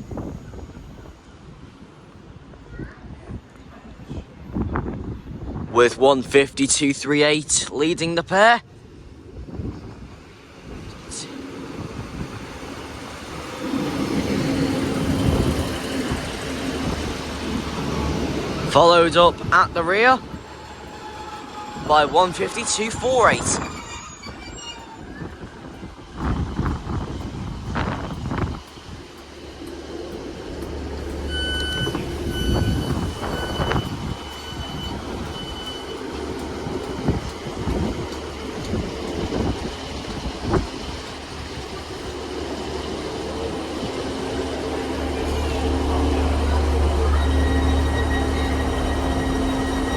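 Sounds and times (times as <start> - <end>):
diesel train engine drone: 0.0 - 49.9
train wheel noise: 0.0 - 49.9.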